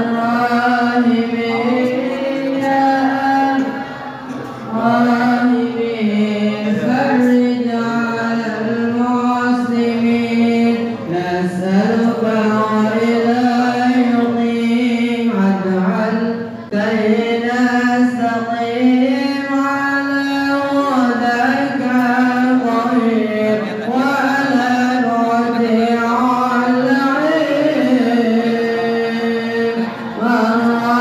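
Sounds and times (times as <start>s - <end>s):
man chanting melismatically: 0.0s - 31.0s.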